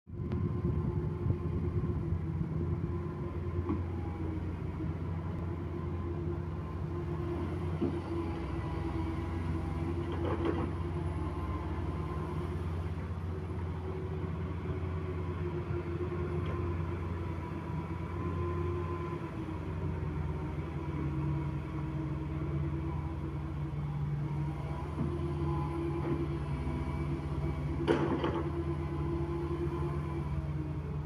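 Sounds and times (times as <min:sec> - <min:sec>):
excavator diesel engine running: 0:00.1 - 0:31.0.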